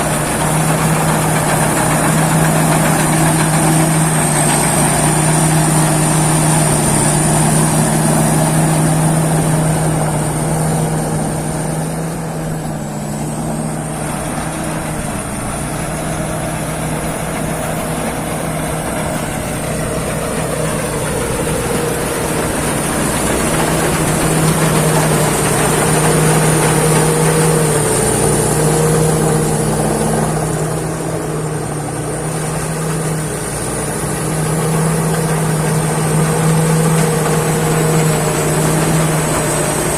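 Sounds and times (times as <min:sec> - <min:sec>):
harvester engine drone: 0:00.0 - 0:39.9.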